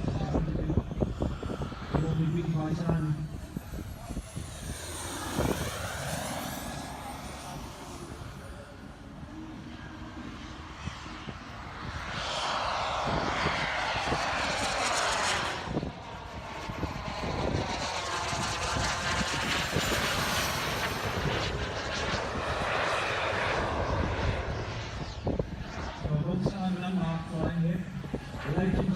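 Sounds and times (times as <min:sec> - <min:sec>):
model jet turbine flying past: 0:00.0 - 0:28.9.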